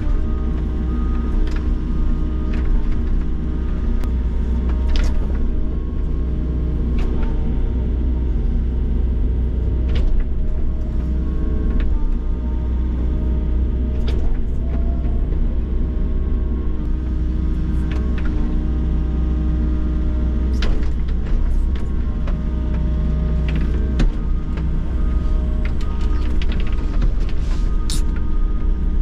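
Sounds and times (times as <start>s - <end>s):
excavator engine and hydraulics: 0.0s - 29.0s.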